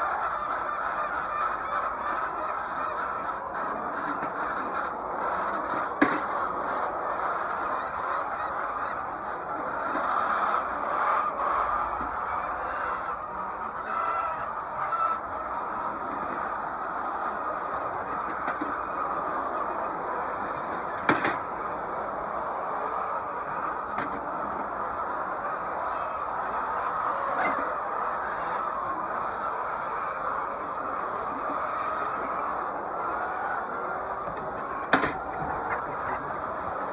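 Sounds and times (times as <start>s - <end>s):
hens clucking: 0.0s - 36.9s.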